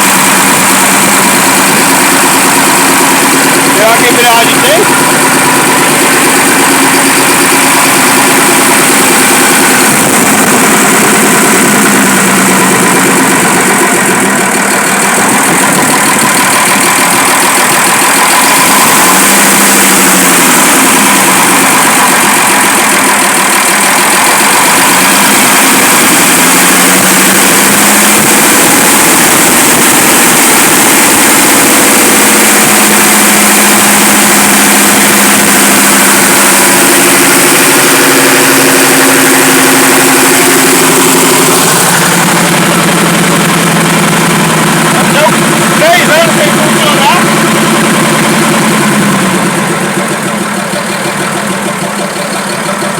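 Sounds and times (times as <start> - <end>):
diesel truck engine idling: 0.0 - 52.9.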